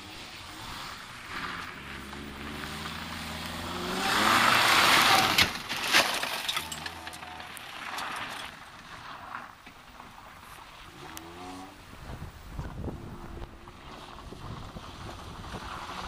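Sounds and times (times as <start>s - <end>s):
rally car engine revving: 0.0s - 8.6s, 10.8s - 16.0s
tyres sliding on gravel: 0.0s - 16.0s.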